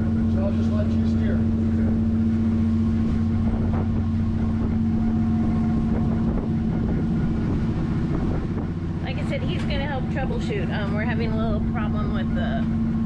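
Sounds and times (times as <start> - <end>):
diesel boat engine droning: 0.0 - 13.0.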